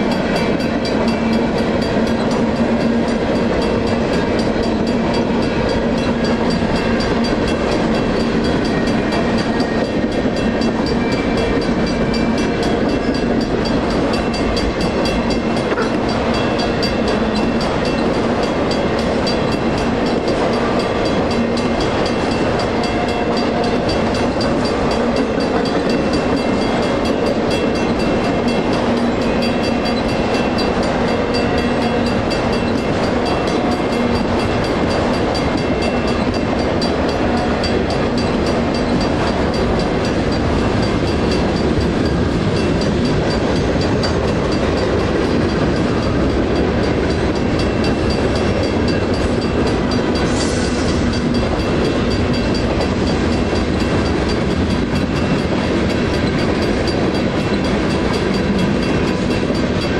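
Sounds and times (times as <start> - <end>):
crossing bell ringing rapidly: 0.0 - 59.9
train wheels rumbling on rail: 0.0 - 59.9.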